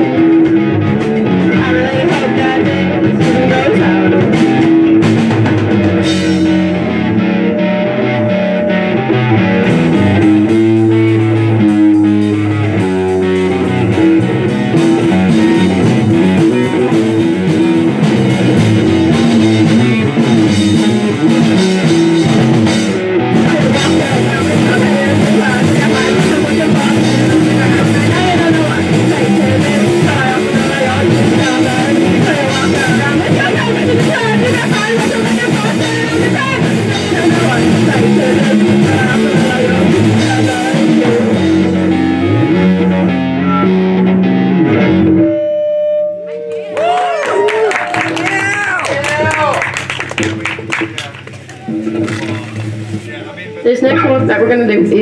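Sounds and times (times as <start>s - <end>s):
live rock band playing: 0.0s - 45.7s, 46.8s - 55.0s
electric guitar: 0.0s - 55.0s.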